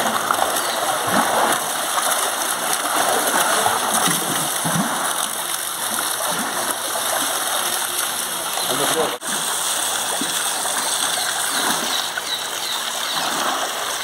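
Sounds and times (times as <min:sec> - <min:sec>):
elephant splashing in water: 0:00.0 - 0:14.0
water jet pouring into pool: 0:00.0 - 0:14.0.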